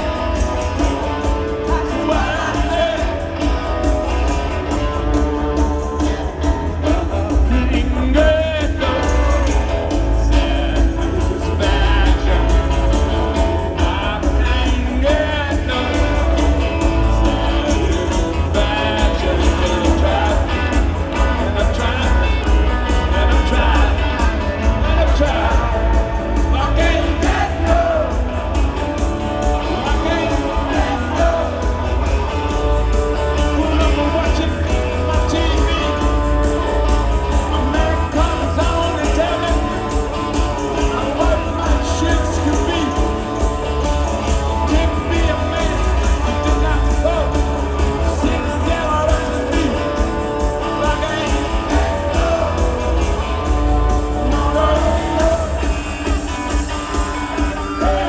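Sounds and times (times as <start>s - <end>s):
heavy boomy bass: 0.0s - 56.0s
live rock band with singer: 0.0s - 58.0s.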